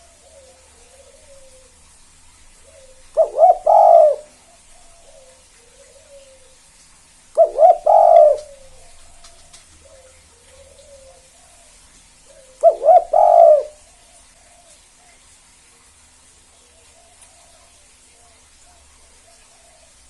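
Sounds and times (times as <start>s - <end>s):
dove cooing: 0.0s - 15.3s, 16.5s - 20.0s.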